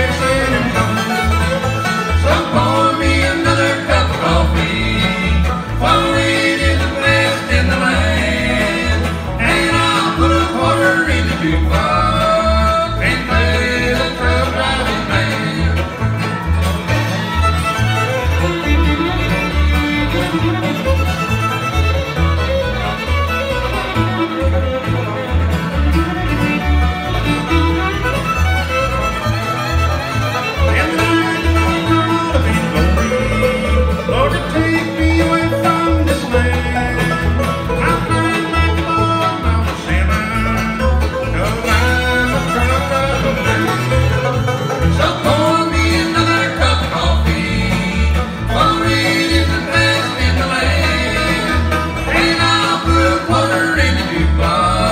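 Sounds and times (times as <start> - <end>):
acoustic guitar: 0.0 - 54.9
banjo: 0.0 - 54.9
bowed fiddle: 0.0 - 54.9
pulsing bass notes: 0.0 - 54.9.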